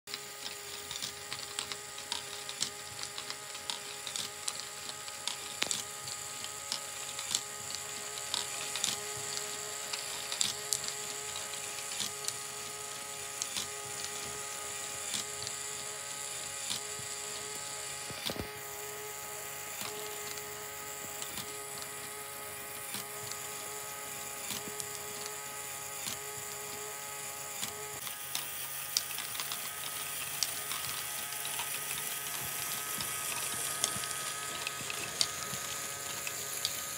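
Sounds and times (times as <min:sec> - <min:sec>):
small electric motor whining: 0:00.1 - 0:36.9.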